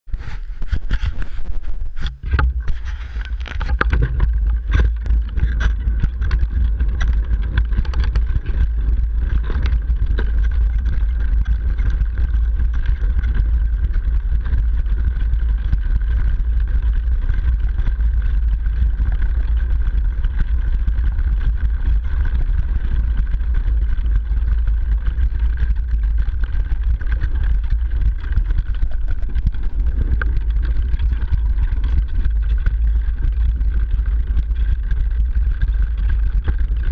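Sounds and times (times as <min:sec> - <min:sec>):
low rumble of bike riding: 0:00.0 - 0:36.9
bike tyres crunching snow: 0:00.1 - 0:36.9.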